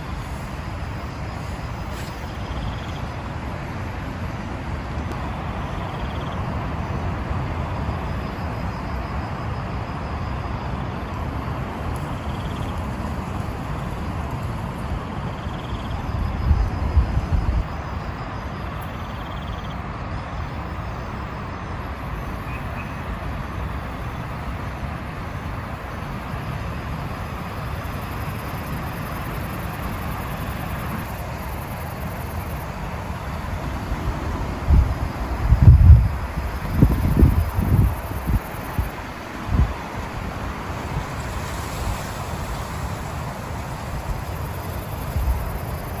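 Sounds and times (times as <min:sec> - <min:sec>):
steady rain hiss: 0:00.0 - 0:46.0
strong wind: 0:00.0 - 0:46.0.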